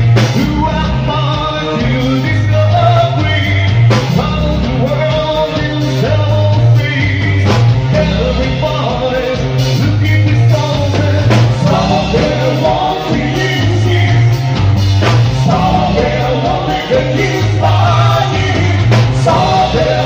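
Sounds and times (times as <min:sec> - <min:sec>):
electric guitar: 0:00.0 - 0:20.0
pulsing bass line: 0:00.0 - 0:20.0
man singing into microphone: 0:00.3 - 0:20.0.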